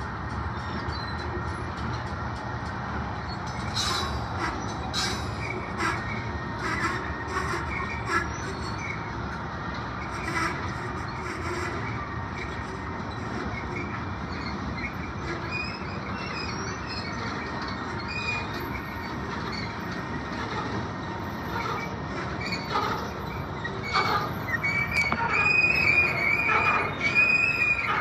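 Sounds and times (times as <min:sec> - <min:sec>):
steel wheels rumbling on rail: 0:00.0 - 0:28.0
wheel squeals: 0:00.6 - 0:02.5, 0:03.1 - 0:09.2, 0:10.0 - 0:28.0.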